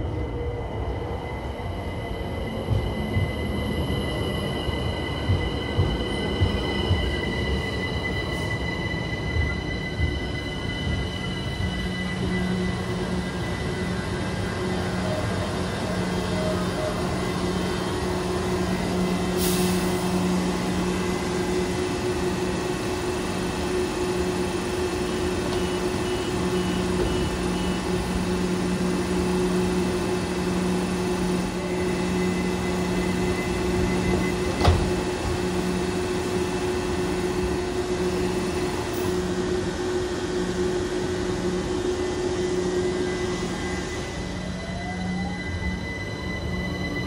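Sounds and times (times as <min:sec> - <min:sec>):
train mechanical hum: 0:00.0 - 0:47.0.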